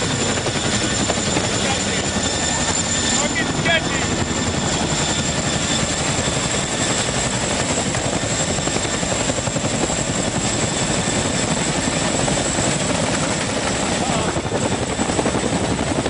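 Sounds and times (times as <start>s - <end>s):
helicopter rotor beat: 0.0s - 16.0s.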